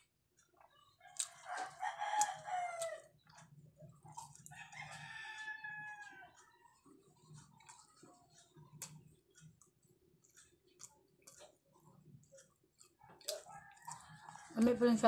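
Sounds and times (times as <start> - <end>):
faint chewing with mouth clicks: 0.0 - 15.0.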